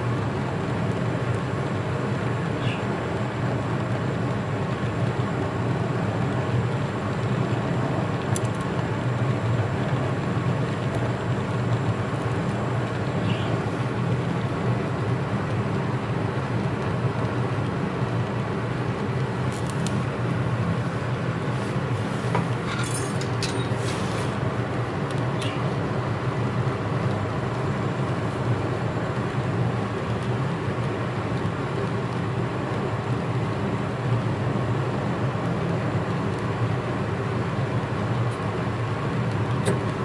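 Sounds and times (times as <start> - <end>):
low mechanical rumble: 0.0 - 40.0.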